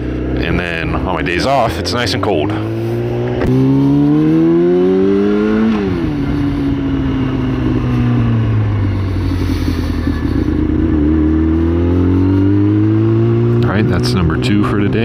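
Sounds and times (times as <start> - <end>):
motorcycle engine shifting gears: 0.0 - 15.0
road and wind noise: 0.0 - 15.0.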